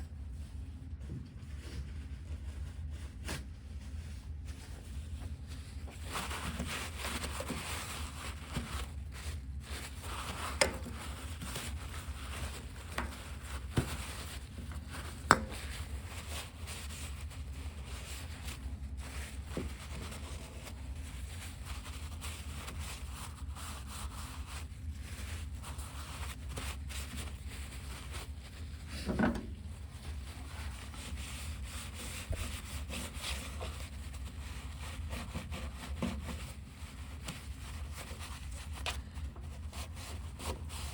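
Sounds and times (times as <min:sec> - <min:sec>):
brush scrubbing: 0:01.8 - 0:40.9.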